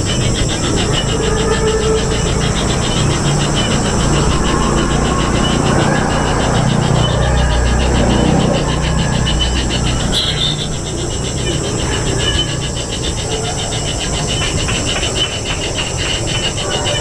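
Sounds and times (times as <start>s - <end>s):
nestlings rattling chatter: 0.0s - 17.0s.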